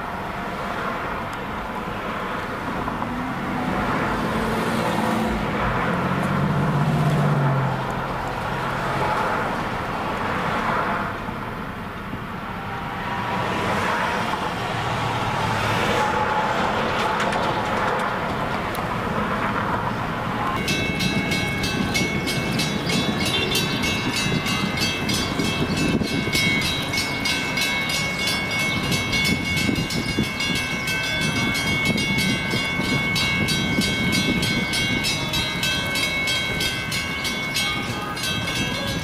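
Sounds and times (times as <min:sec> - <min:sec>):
cars passing: 0:00.0 - 0:39.0
vehicle engine hum: 0:00.0 - 0:39.0.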